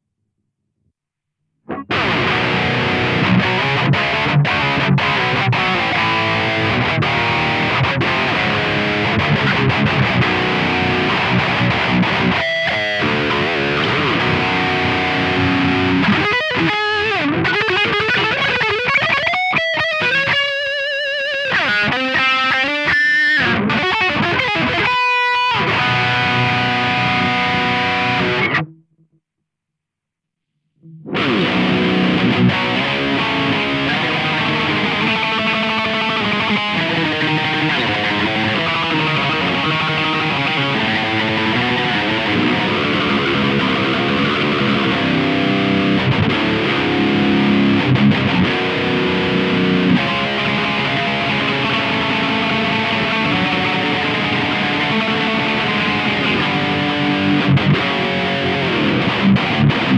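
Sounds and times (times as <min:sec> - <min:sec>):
distorted electric guitar: 0:01.6 - 0:29.2, 0:30.7 - 0:59.9.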